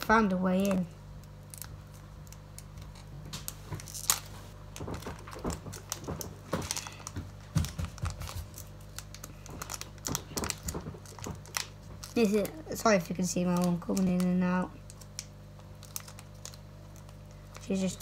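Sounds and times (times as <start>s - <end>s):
foil wrapper crinkling and tearing: 0.5s - 18.0s.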